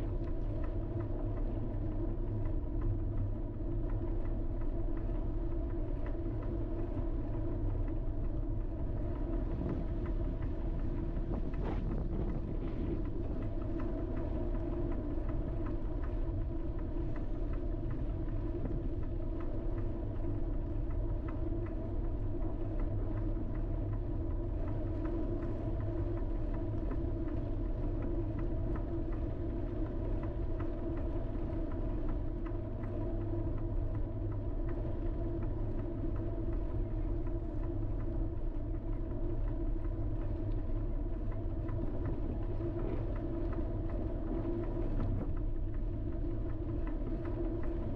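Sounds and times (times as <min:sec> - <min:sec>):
vehicle engine and road drone: 0:00.0 - 0:47.9.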